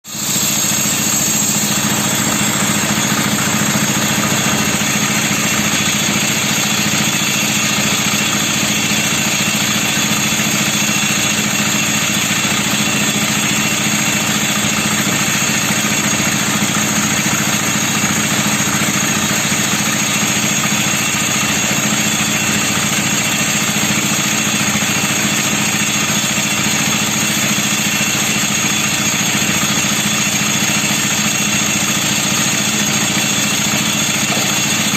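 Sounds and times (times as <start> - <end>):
concrete mixer engine running: 0.0 - 34.9.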